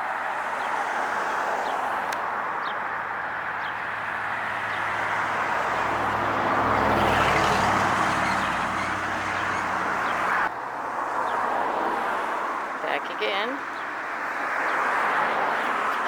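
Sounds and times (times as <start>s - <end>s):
car passing by: 0.0s - 12.9s, 13.6s - 16.0s.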